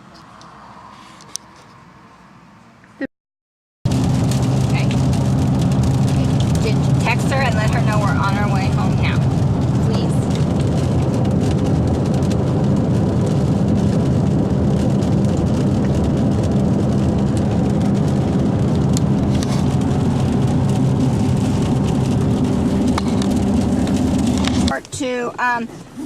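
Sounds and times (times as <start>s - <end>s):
car road and engine noise: 0.0s - 3.1s, 3.9s - 26.0s.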